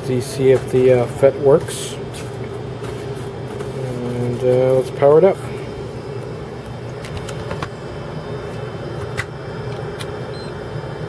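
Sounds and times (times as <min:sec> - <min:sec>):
fan-like hum: 0:00.0 - 0:11.0.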